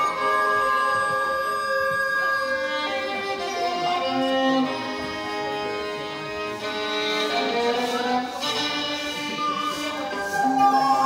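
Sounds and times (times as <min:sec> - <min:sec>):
recorders and violin playing melody: 0:00.0 - 0:11.0.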